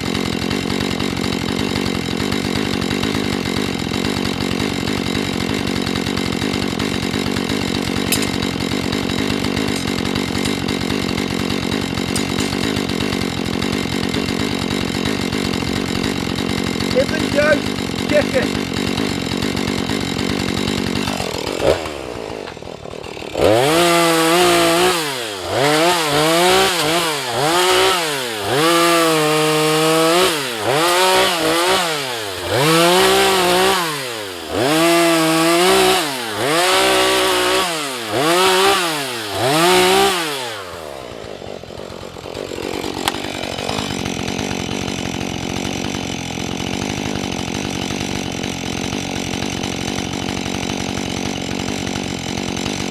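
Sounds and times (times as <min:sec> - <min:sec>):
chainsaw revving and idling: 0:00.0 - 0:52.9.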